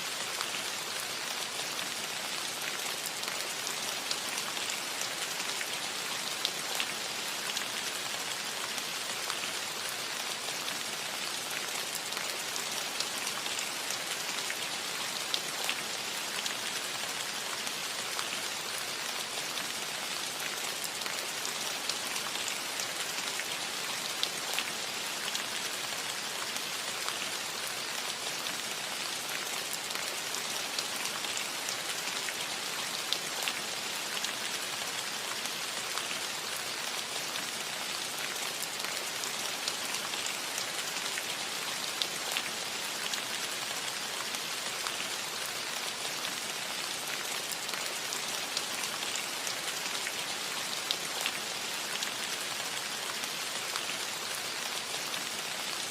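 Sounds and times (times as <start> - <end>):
rain falling on a roof: 0.0 - 55.9.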